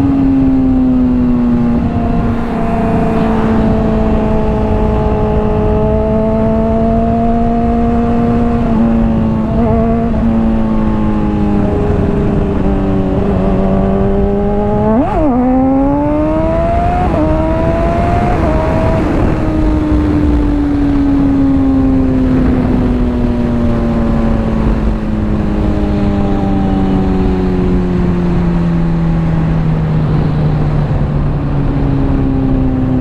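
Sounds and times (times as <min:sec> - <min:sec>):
motorcycle engine revving: 0:00.0 - 0:32.2
wind rush: 0:00.0 - 0:33.0.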